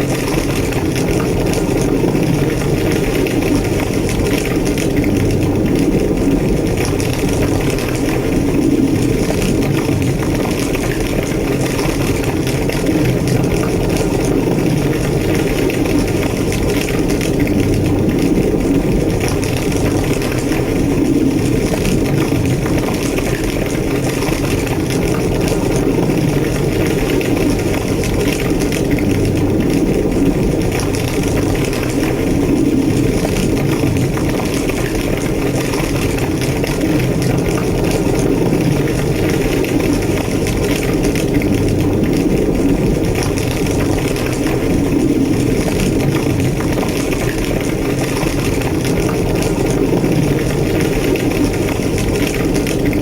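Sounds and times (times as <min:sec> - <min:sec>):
faint fire crackles: 0:00.0 - 0:53.0
large fire roaring: 0:00.0 - 0:53.0.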